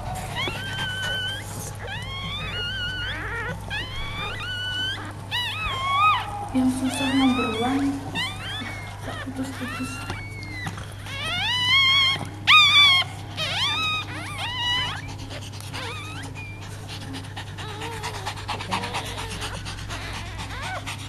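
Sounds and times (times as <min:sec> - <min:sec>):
dog panting: 0:00.0 - 0:21.0
dog whimpering: 0:00.0 - 0:21.0
dog whining: 0:00.0 - 0:21.0.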